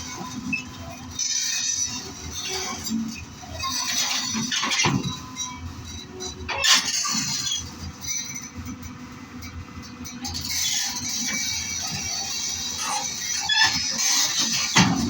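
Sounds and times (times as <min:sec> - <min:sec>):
excavator running: 0:00.0 - 0:15.0.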